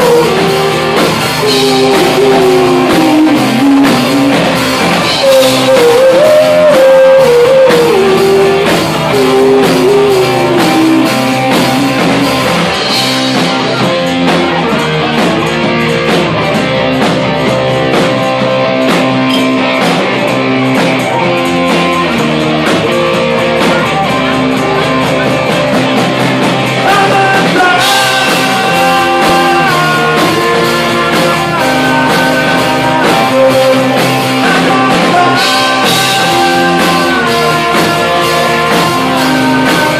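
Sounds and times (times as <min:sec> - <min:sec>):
electric guitar bending lead: 0:00.0 - 0:39.9
held guitar chords: 0:00.0 - 0:39.9
rock band playing: 0:00.0 - 0:39.9.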